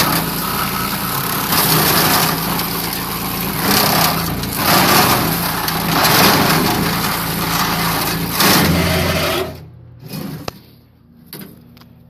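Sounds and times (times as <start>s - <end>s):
wood chipper engine running: 0.0s - 10.7s.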